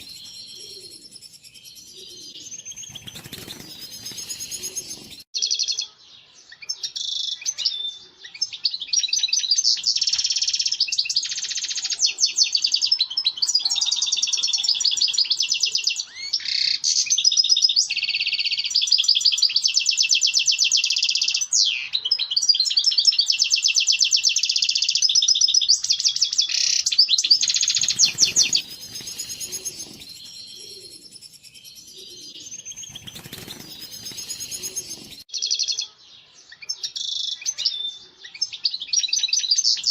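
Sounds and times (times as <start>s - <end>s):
goldfinch twittering song: 0.0s - 13.4s, 14.7s - 39.9s.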